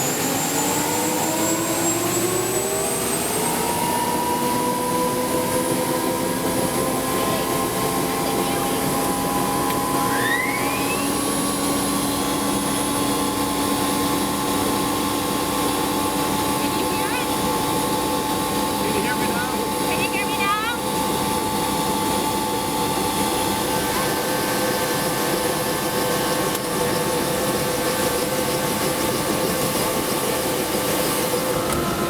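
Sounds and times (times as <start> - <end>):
helicopter turbine whine: 0.0 - 32.0.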